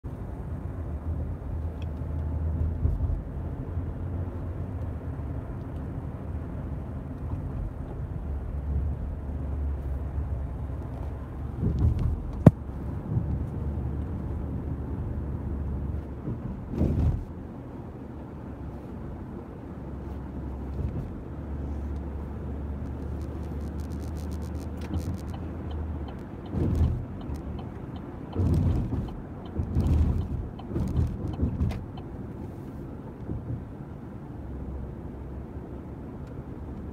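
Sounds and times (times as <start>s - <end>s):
car cabin road rumble: 0.0s - 36.9s.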